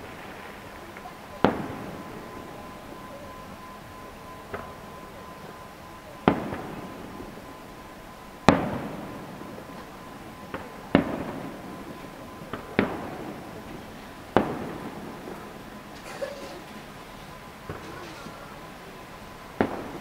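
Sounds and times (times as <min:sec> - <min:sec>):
distant firework booms: 0:00.0 - 0:05.4, 0:06.2 - 0:07.4, 0:08.4 - 0:16.0, 0:16.8 - 0:20.0.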